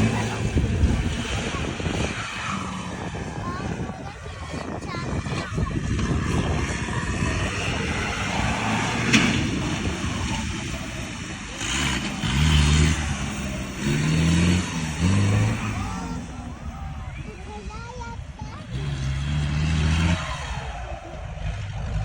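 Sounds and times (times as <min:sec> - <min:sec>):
engine revving: 0:00.0 - 0:22.0
engines rumbling: 0:00.0 - 0:22.0.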